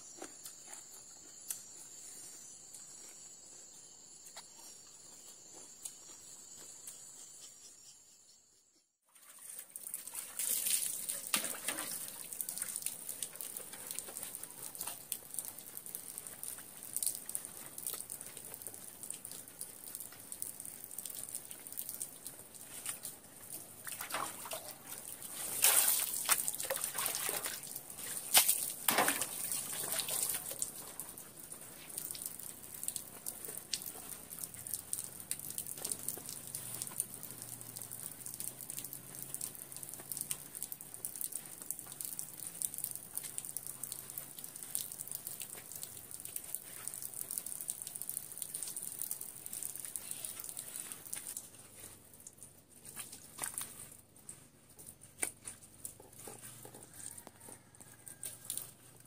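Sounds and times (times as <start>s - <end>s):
water running and splashing: 9.1s - 59.0s.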